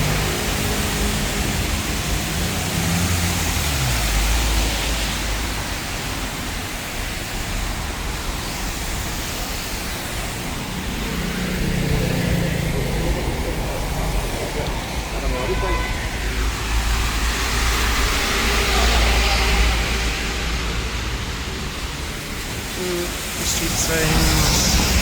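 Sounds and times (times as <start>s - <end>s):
rain hissing: 0.0s - 25.0s
vehicles passing rumble: 0.0s - 25.0s
wet road noise: 0.0s - 25.0s.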